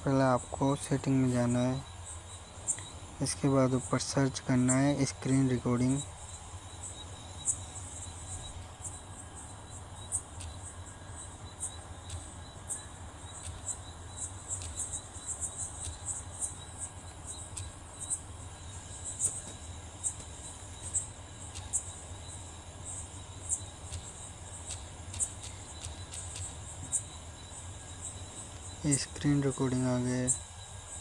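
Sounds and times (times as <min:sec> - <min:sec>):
insects chirping: 0:00.0 - 0:31.0
low steady hum: 0:00.0 - 0:31.0.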